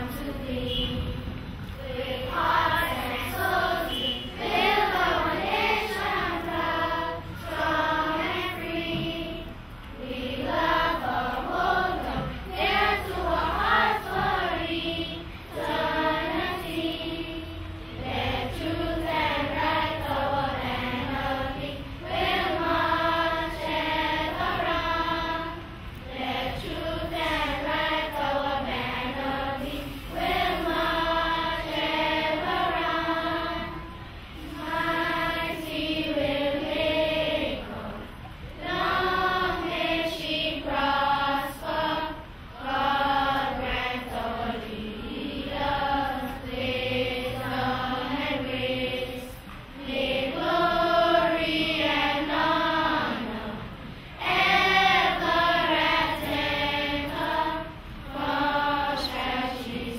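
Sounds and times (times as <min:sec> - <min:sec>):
children singing together: 0:00.0 - 0:59.9.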